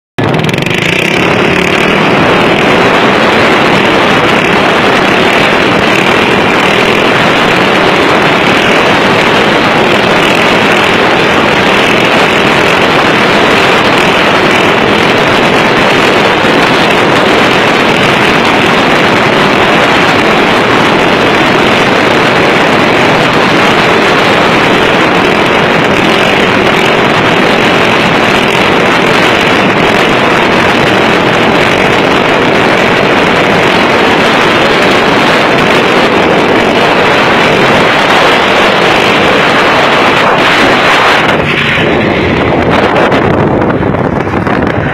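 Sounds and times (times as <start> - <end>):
small engine running: 0.2 - 44.9.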